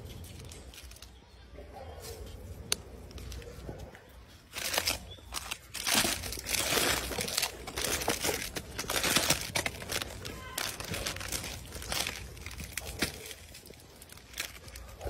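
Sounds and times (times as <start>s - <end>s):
plastic wrappers crinkling: 0.0s - 1.5s, 2.2s - 15.0s.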